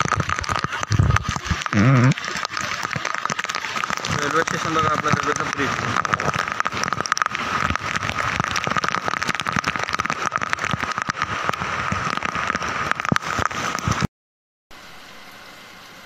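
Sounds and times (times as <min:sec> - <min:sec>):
heavy rain pattering: 0:00.0 - 0:14.1.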